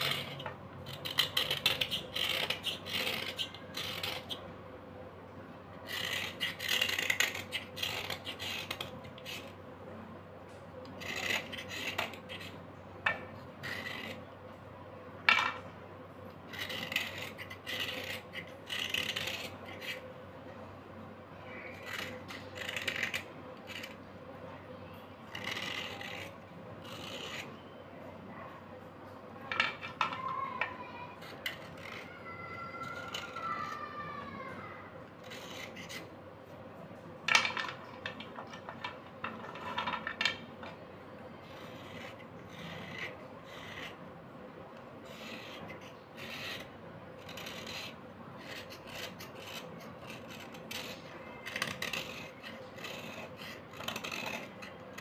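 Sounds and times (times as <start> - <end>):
blade scraping slate pencils: 0.0 - 4.5, 5.7 - 9.6, 10.8 - 14.3, 16.3 - 20.1, 21.4 - 27.7, 29.4 - 36.2, 37.3 - 44.1, 44.7 - 55.0.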